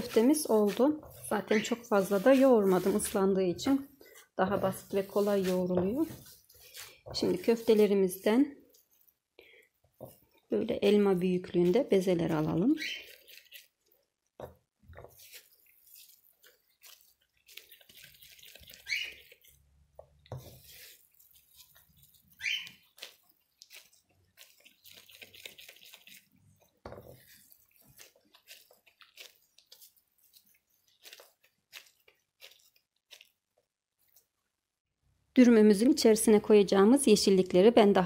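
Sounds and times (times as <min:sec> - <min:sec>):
wet squishing and patting of paste: 0:00.0 - 0:34.9.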